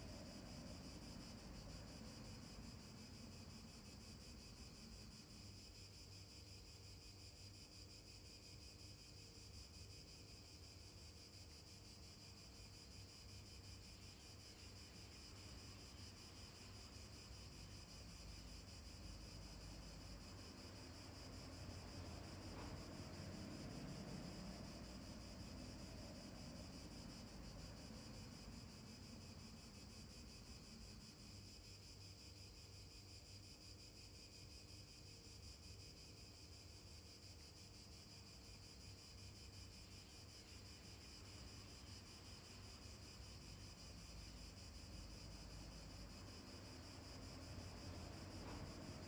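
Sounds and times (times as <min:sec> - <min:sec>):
faint high-pitched hiss: 0:00.0 - 0:49.0.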